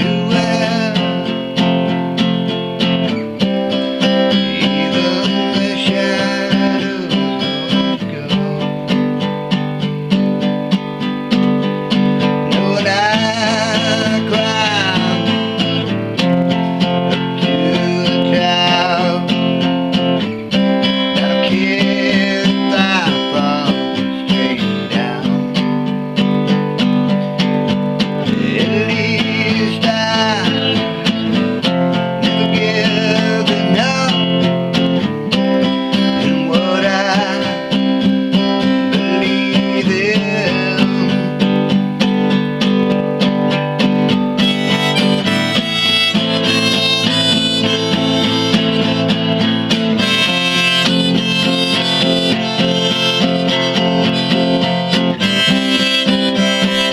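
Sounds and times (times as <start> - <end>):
person singing: 0.0 - 2.4, 3.1 - 9.4, 12.2 - 25.8, 28.0 - 41.9, 44.4 - 56.9
acoustic guitar strumming: 0.0 - 56.9.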